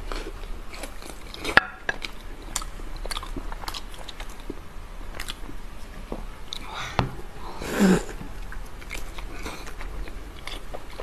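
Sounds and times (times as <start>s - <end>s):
biting and chewing food: 0.0s - 7.4s, 8.1s - 11.0s.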